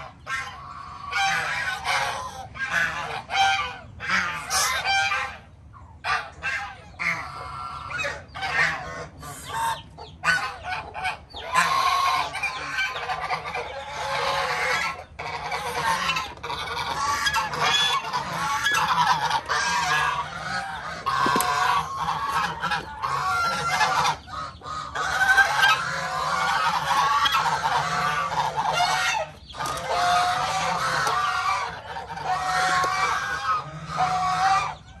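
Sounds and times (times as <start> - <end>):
geese honking: 0.0 - 35.0.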